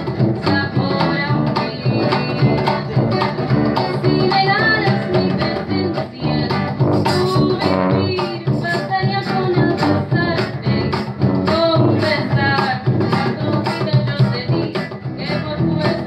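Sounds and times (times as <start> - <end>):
accordion: 0.0 - 16.0
strummed acoustic guitar: 0.0 - 16.0.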